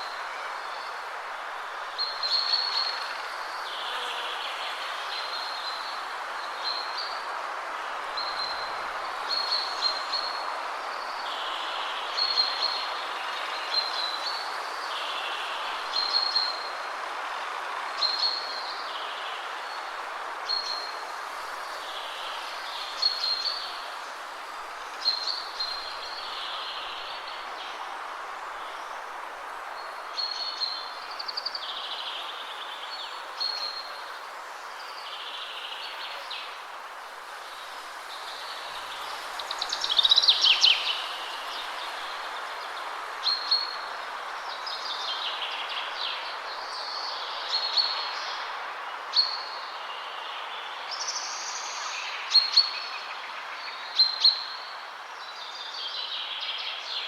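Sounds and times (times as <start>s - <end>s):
songbird singing: 0.0s - 7.4s, 8.0s - 57.0s
wind rushing through trees: 0.0s - 57.0s.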